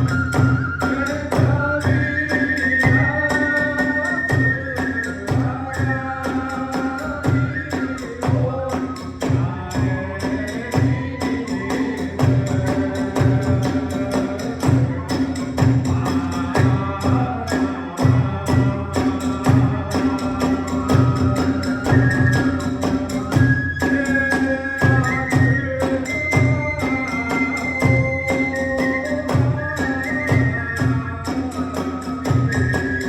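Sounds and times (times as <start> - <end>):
bamboo flute melody: 0.0 - 33.0.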